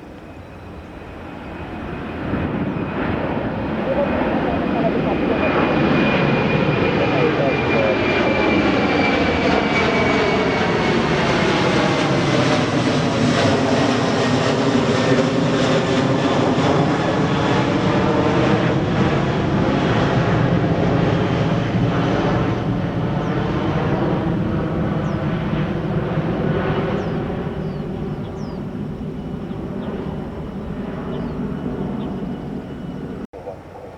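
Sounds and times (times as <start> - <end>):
airliner engines whining: 0.0 - 33.9.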